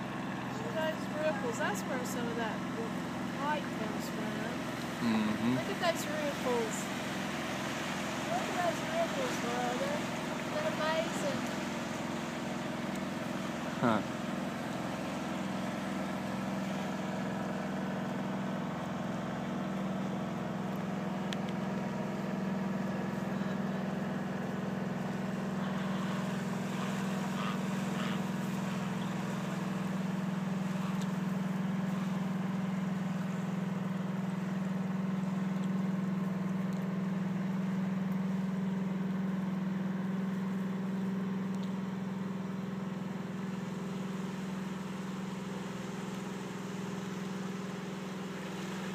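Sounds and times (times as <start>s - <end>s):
boat diesel engine drone: 0.0s - 48.9s.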